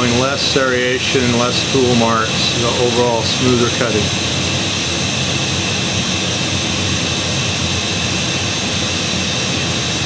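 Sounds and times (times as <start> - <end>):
faint high whines: 0.0 - 10.0
machining center running: 0.0 - 10.0.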